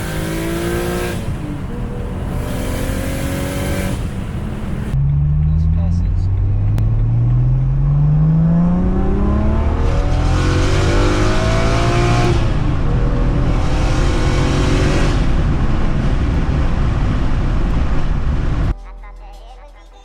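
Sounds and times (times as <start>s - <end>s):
car engine accelerating: 0.0s - 18.7s.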